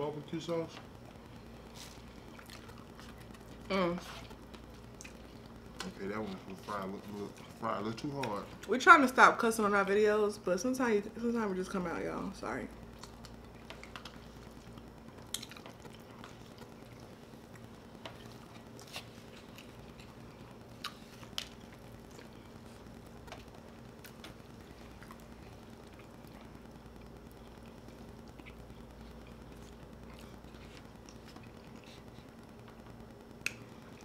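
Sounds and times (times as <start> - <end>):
faint steady hum: 0.0 - 34.0
chewing: 1.0 - 8.7, 12.8 - 34.0.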